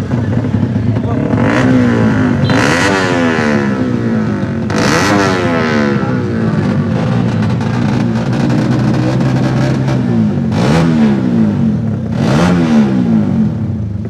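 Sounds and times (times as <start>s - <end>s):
racing engine idling and revving: 0.0s - 14.0s.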